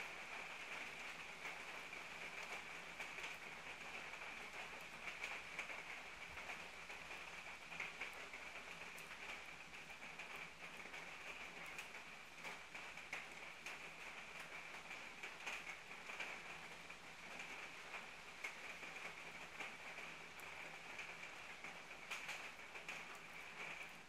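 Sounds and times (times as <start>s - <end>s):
rain on wet pavement: 0.0s - 24.0s.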